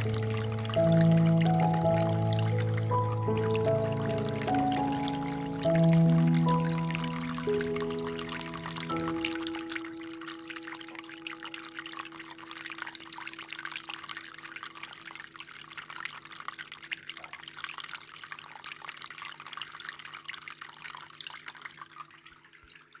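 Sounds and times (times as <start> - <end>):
water trickling and splashing: 0.0 - 23.0.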